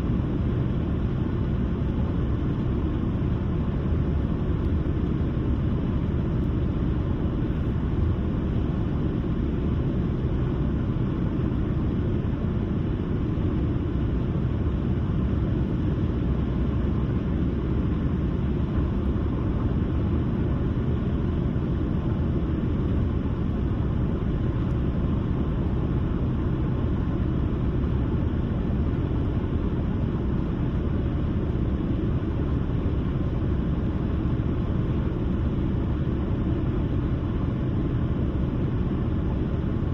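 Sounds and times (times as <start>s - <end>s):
car driving with road noise: 0.0s - 39.9s.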